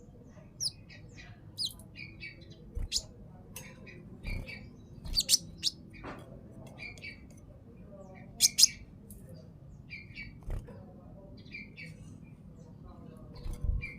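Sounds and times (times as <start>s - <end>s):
songbird chirping: 0.0s - 13.9s.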